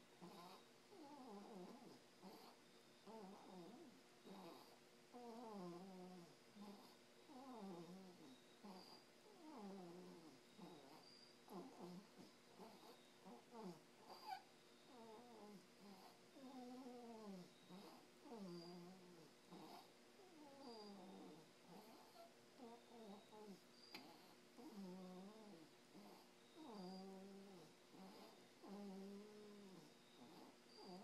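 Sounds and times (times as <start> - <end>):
faint squeaky snoring: 0.2 - 31.0.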